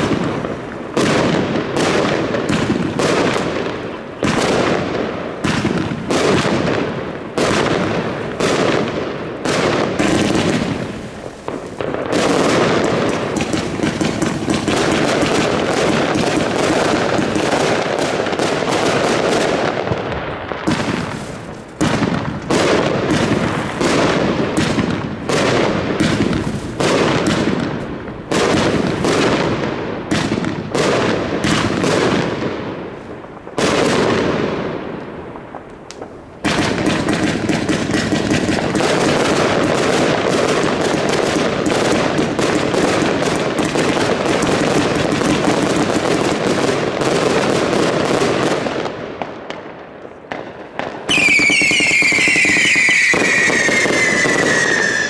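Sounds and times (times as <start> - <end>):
crackling firework bursts: 0.0 - 55.0
firework cakes firing: 0.0 - 55.0.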